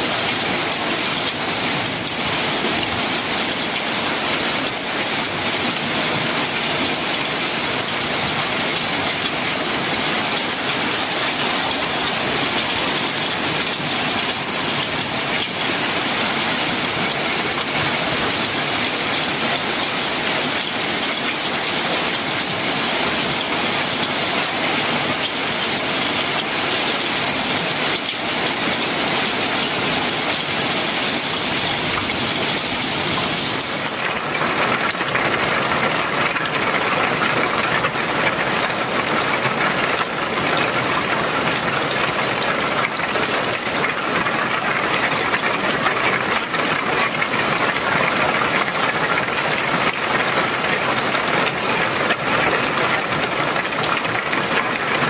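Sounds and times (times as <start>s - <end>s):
rain on a metal roof: 0.0s - 55.0s
rain pouring off roof edges: 0.0s - 55.0s.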